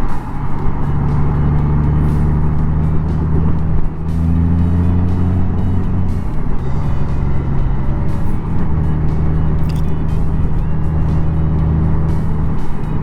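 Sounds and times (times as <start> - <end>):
motorcycle engine running: 0.0 - 13.0
music playing: 0.0 - 13.0
wind and road noise: 0.0 - 13.0.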